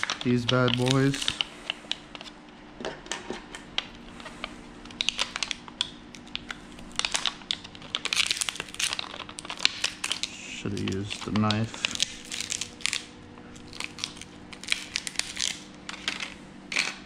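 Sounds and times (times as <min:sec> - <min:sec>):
plastic blister pack crinkling: 0:00.0 - 0:02.4, 0:03.8 - 0:17.0
sharp plastic clicks and crackles: 0:00.0 - 0:02.4, 0:03.5 - 0:17.0.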